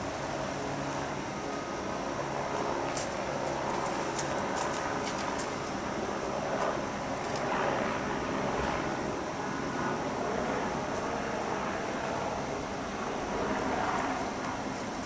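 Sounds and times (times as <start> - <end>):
distant helicopters hovering: 0.0 - 15.0.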